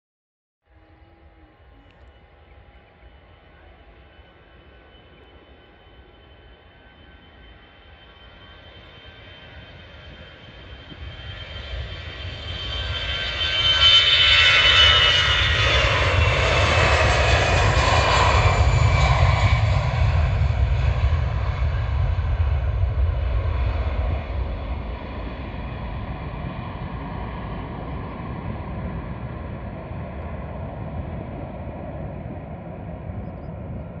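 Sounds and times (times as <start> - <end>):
airliner engines taking off: 0.7 - 34.0.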